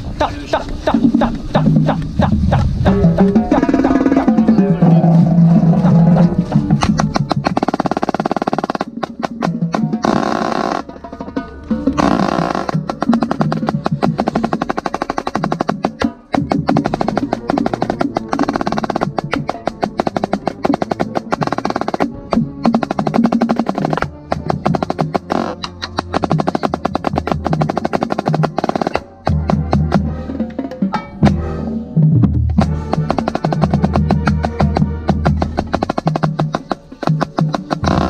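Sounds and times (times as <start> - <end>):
drumline drums playing: 0.0 - 38.0
marching snare drum rolls: 0.2 - 38.0.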